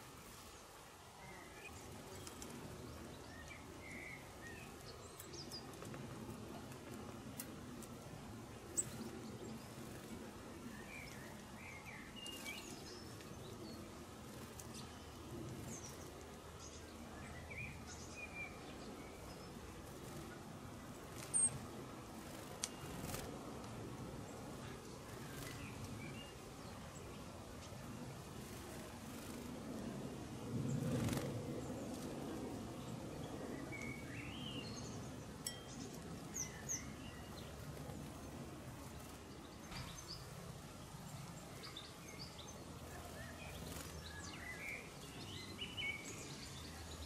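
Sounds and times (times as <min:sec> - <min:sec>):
garden birds chirping: 0:00.0 - 0:47.0
low background noise: 0:00.0 - 0:47.0.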